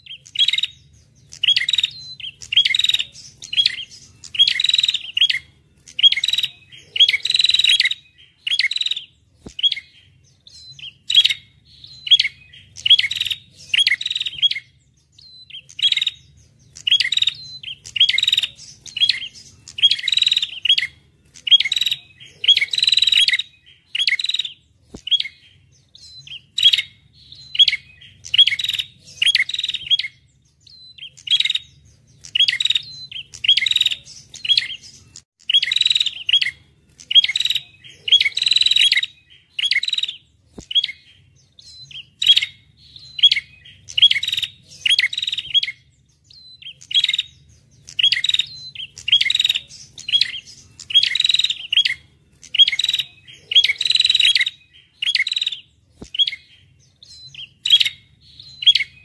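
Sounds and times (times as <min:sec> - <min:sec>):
songbird chirping rapidly: 0:00.0 - 0:59.0.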